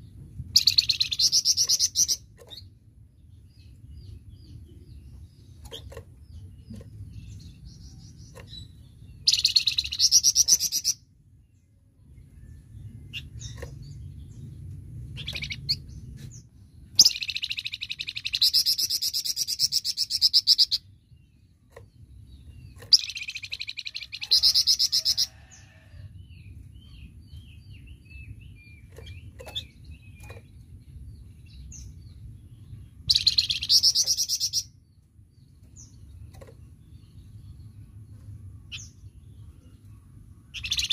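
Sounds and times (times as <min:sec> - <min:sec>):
low background hum: 0:00.0 - 0:40.9.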